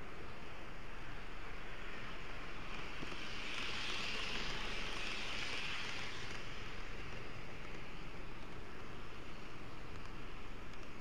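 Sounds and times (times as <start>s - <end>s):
passing train hiss: 0.0s - 10.5s
model train running: 0.0s - 11.0s.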